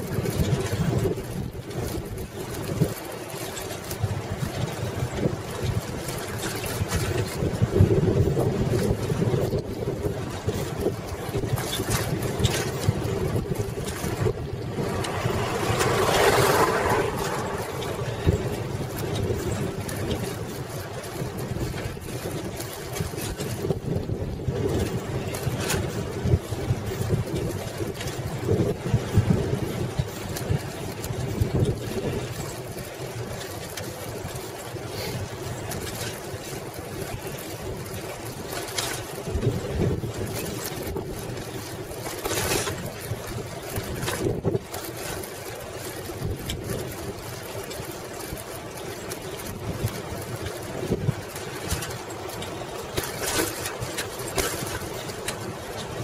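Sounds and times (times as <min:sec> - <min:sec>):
bicycle tyres on pavement: 0:00.0 - 0:56.0
bike clicks and rattles: 0:00.0 - 0:56.0
wind rumbling on microphone: 0:00.0 - 0:56.0.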